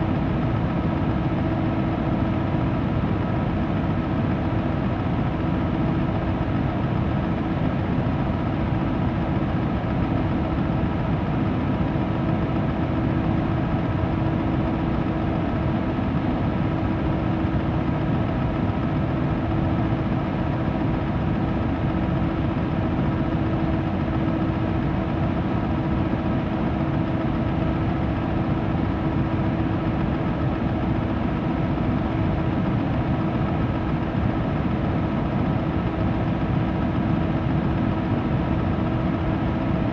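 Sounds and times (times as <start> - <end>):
electric fan rushing air: 0.0 - 39.9
fan motor hum: 0.0 - 39.9.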